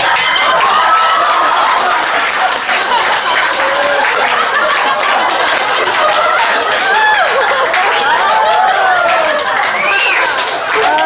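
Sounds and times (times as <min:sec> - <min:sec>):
audience laughing and clapping: 0:00.0 - 0:11.0.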